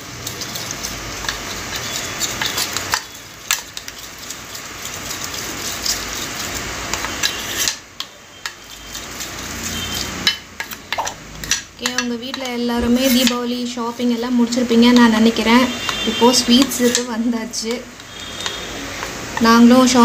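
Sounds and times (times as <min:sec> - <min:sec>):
metal spoon stirring batter in bowl: 0:00.0 - 0:20.0.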